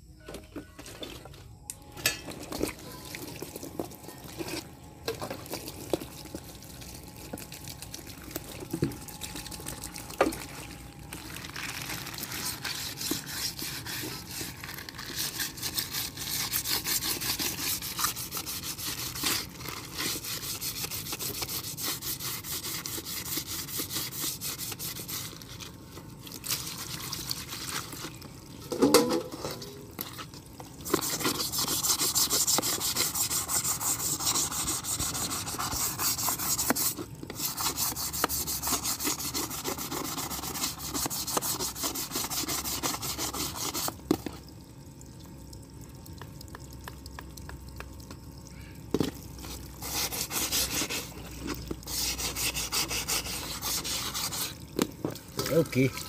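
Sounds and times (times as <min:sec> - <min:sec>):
hose water splashing on blade: 0:05.1 - 0:28.2, 0:28.8 - 0:44.3, 0:49.4 - 0:56.0.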